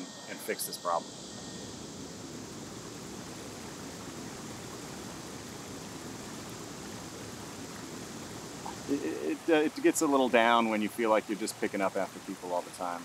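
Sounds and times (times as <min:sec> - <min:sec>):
water and wind rushing: 0:00.0 - 0:13.0.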